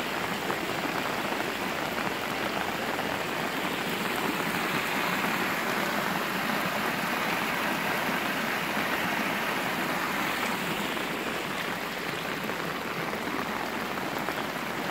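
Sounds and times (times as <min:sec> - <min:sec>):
heavy rain falling: 0:00.0 - 0:14.9
stormwater rushing in drain: 0:00.0 - 0:14.9.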